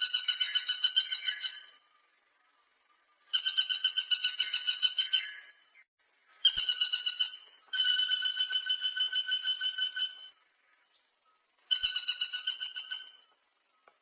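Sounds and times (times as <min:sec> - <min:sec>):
woodpecker calling in trilled runs: 0:00.0 - 0:02.0, 0:03.0 - 0:14.0.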